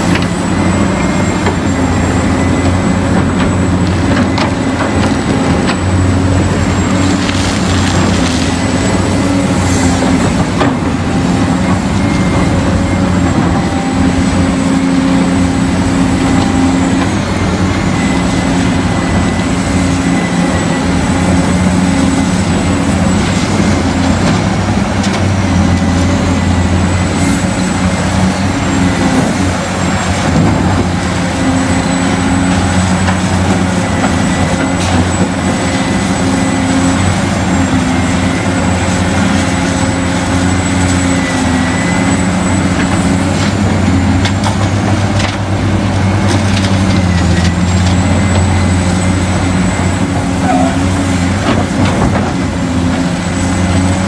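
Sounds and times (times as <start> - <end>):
model excavator engine drone: 0.0 - 54.0.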